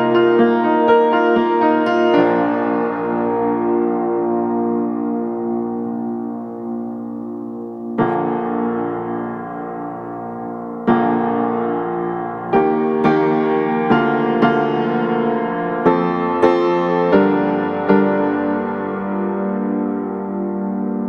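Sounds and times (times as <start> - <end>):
background piano music: 0.0 - 21.0.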